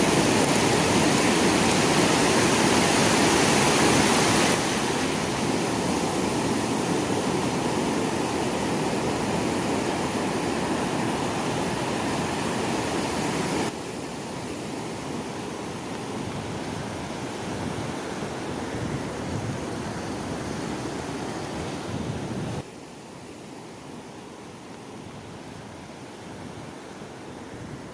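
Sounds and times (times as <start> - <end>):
sea waves washing on shore: 0.0 - 27.9.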